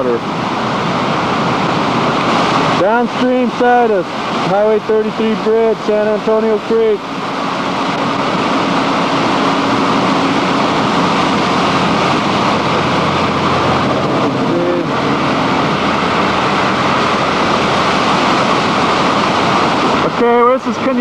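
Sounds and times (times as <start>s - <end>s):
rushing flood water: 0.0s - 21.0s.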